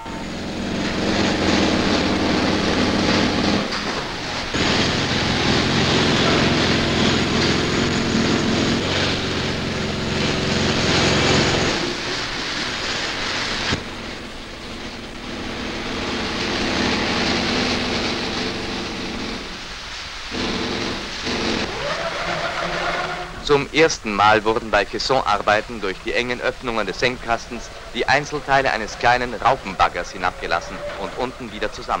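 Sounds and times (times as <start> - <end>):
low machinery drone: 0.0 - 32.0
hiss: 0.3 - 32.0.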